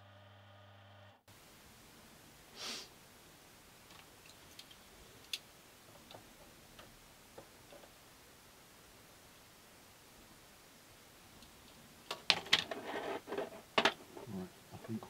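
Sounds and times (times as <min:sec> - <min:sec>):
soft hiss: 0:01.3 - 0:15.0.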